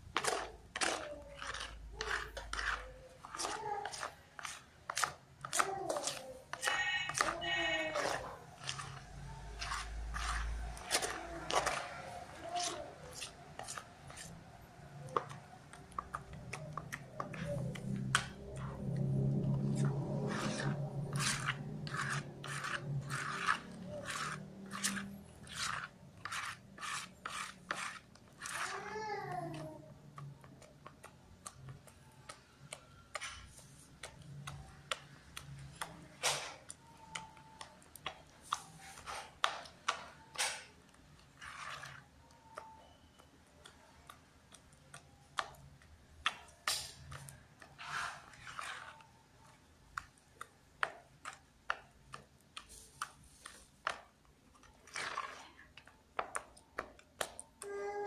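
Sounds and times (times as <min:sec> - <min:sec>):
hand squelching dough in bowl: 0:00.0 - 0:57.7.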